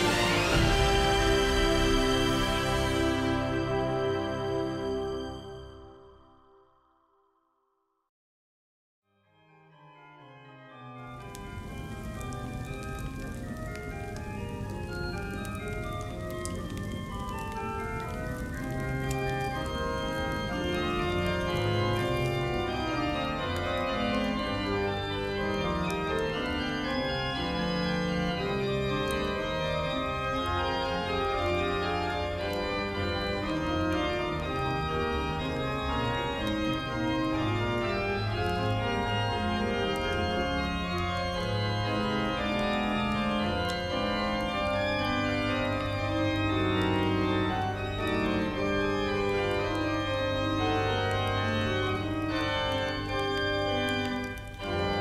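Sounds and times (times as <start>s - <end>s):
organ-like keyboard chords: 0.0s - 6.6s, 10.3s - 55.0s.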